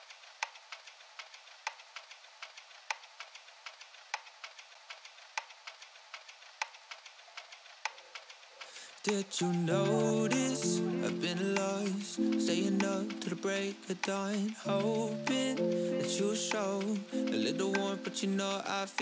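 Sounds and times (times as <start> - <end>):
vinyl record crackle: 0.0 - 19.0.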